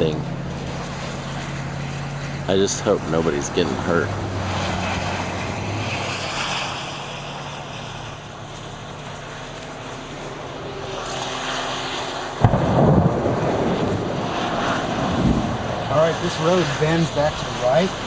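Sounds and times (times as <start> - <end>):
loud low rumbling rush: 0.0 - 18.0
vehicle engine humming: 0.0 - 18.0.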